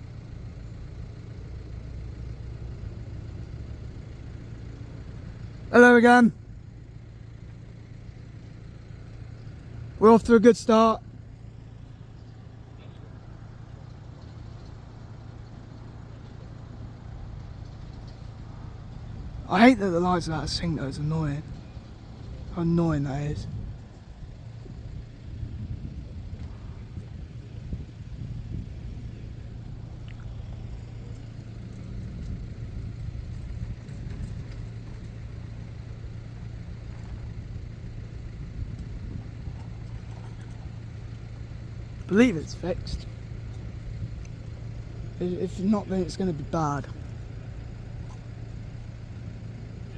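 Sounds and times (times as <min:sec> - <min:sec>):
constant low hum: 0:00.0 - 0:49.9
faint background rumble: 0:00.0 - 0:49.9
vehicle engines idling: 0:00.0 - 0:49.9.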